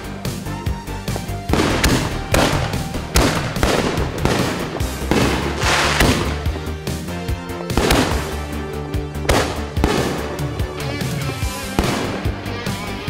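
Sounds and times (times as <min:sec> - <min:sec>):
background music: 0:00.0 - 0:13.0
fireworks firing shots: 0:01.0 - 0:13.0.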